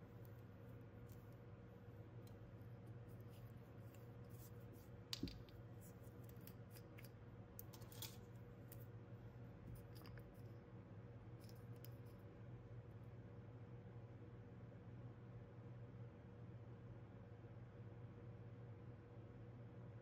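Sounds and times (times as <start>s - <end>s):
air purifier humming: 0.0s - 20.0s.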